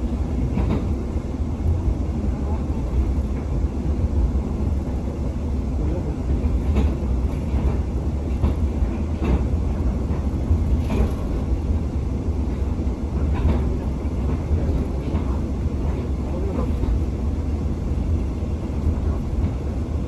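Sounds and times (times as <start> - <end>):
wheels clacking on track: 0.0 - 1.8, 2.4 - 20.0
train rumble: 0.0 - 20.0.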